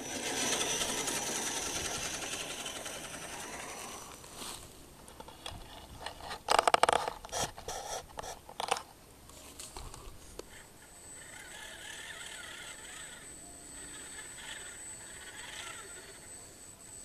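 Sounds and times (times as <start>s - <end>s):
small electric motor whine: 0.0s - 17.0s.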